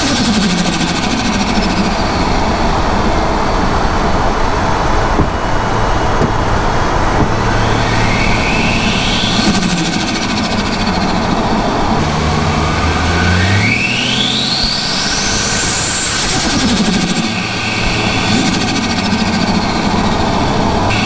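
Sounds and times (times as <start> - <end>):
car engine revving: 0.0 - 21.0
turbo whine: 0.0 - 21.0
wastegate screamer pipe: 0.0 - 21.0.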